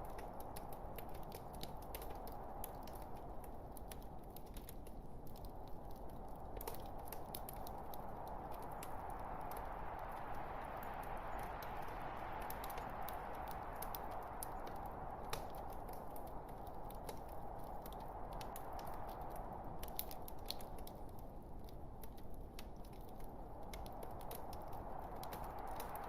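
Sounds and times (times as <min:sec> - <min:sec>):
log fire crackling: 0:00.0 - 0:26.0.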